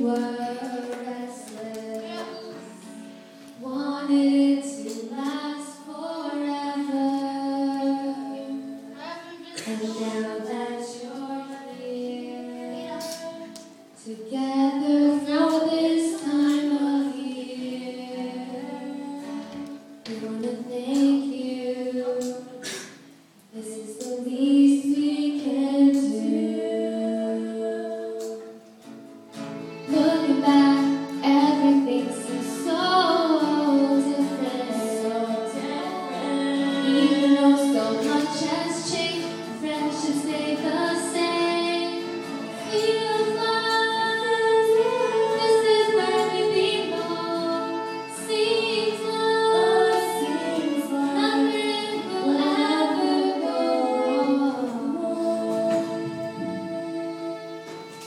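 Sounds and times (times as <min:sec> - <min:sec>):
woman singing: 0:00.0 - 0:03.0, 0:03.6 - 0:22.8, 0:23.5 - 0:28.6, 0:29.9 - 0:57.4
acoustic guitar: 0:00.0 - 0:58.0
violin: 0:00.0 - 0:58.0.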